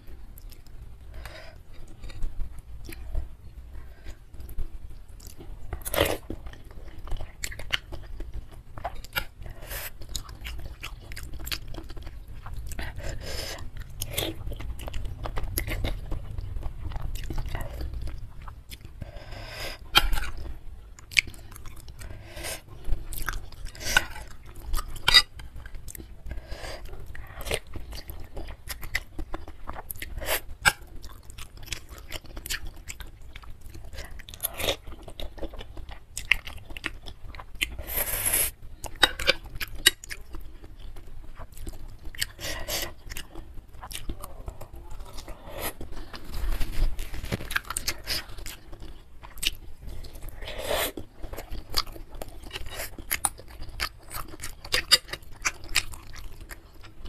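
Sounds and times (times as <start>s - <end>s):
close chewing with wet smacks: 4.4s - 19.0s, 19.8s - 37.8s, 38.8s - 46.3s, 47.2s - 57.0s.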